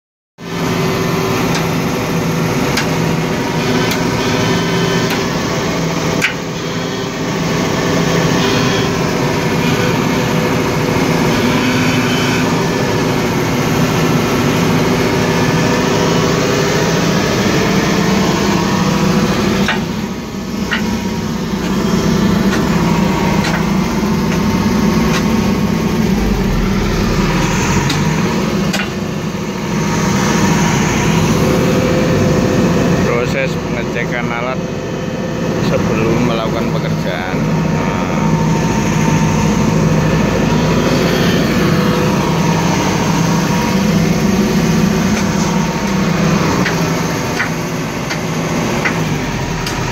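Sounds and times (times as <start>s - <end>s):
diesel engine idling: 0.4s - 49.9s.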